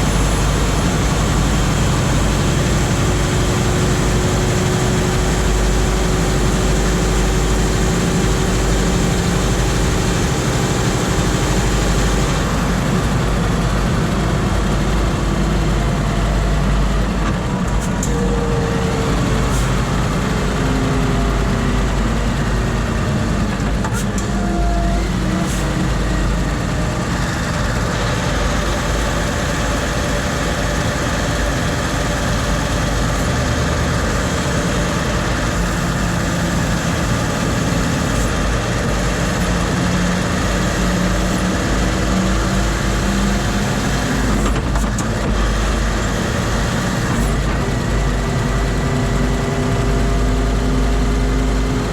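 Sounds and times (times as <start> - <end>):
truck diesel engine droning: 0.0 - 51.9.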